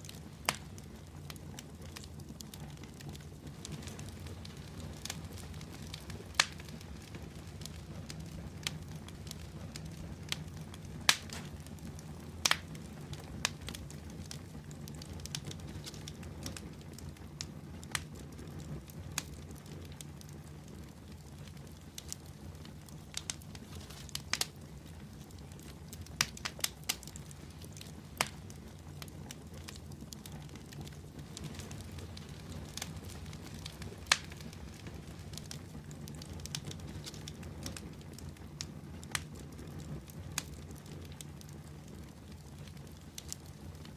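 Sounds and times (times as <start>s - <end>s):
low rumble of flames: 0.0s - 43.9s
wood fire crackling: 0.0s - 43.9s.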